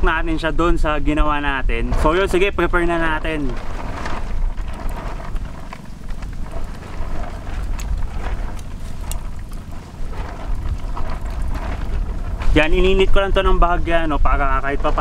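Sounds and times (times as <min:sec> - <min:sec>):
wind rumbling on microphone: 0:00.0 - 0:15.0
wood fire crackling: 0:01.7 - 0:15.0.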